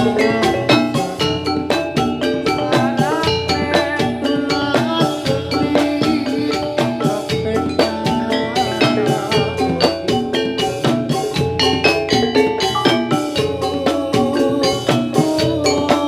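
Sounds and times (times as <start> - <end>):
drumming: 0.0 - 16.0
ringing metal mallet instruments: 0.0 - 16.0.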